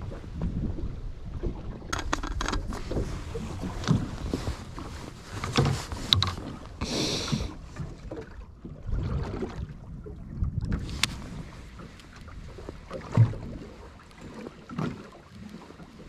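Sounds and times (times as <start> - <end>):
knocks and clatter on boat: 0.0 - 16.0
low wind: 0.0 - 16.0
water noise: 0.0 - 16.0.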